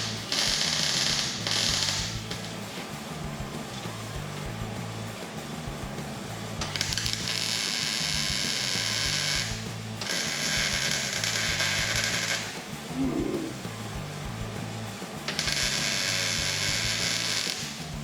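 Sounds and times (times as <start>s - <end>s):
welder crackling hiss: 0.0s - 18.0s.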